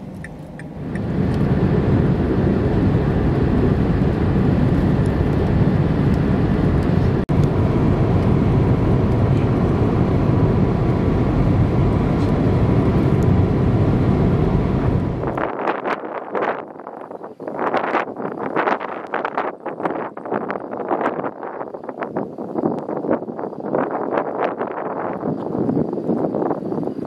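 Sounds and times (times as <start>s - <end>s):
wind blowing across microphone: 0.0s - 27.0s.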